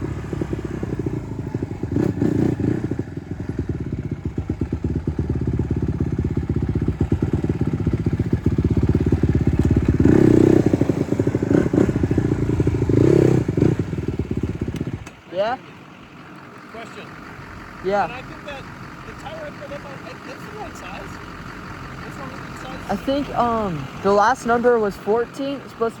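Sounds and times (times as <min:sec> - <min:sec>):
dirt bike engine idling and revving: 0:00.0 - 0:26.0.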